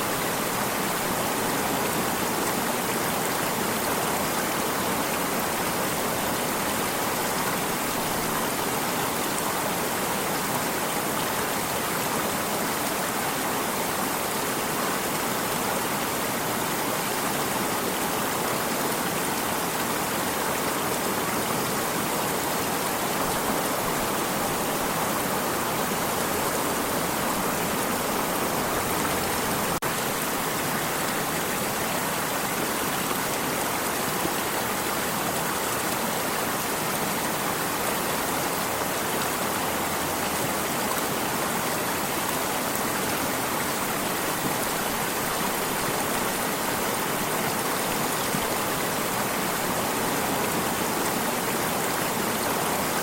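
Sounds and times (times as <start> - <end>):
stream water running: 0.0 - 53.0.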